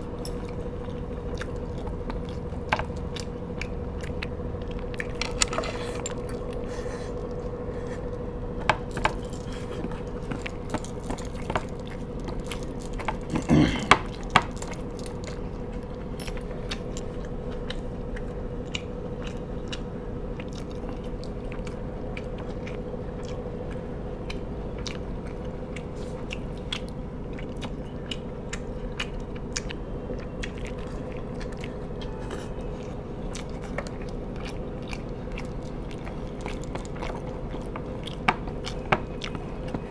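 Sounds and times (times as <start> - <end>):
person chewing and biting food: 0.0 - 39.9.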